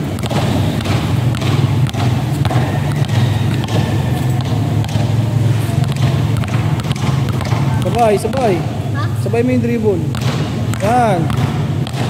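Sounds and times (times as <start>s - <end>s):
basketballs bouncing on concrete: 0.0s - 12.0s.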